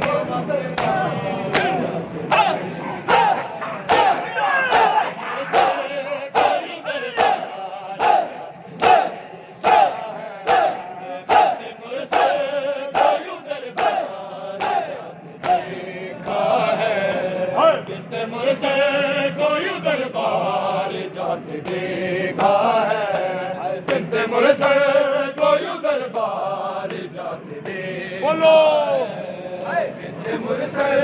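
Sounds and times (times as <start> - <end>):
men chanting: 0.0 - 31.0.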